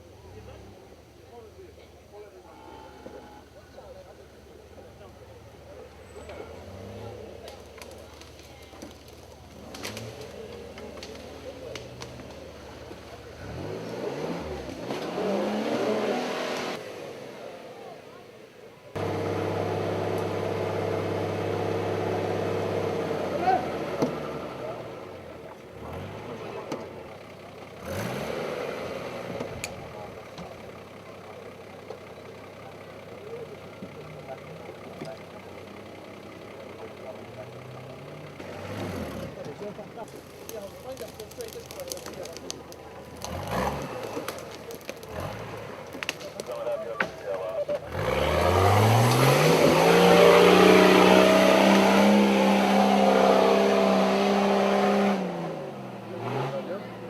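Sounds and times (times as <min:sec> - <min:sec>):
engine revving: 0:05.6 - 0:17.9, 0:18.9 - 0:31.2, 0:32.7 - 0:57.0.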